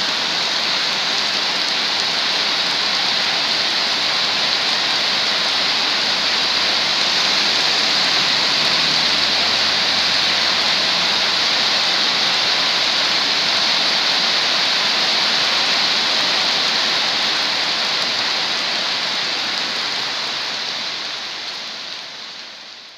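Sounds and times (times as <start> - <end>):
heavy rain on a wet road: 0.0 - 22.9.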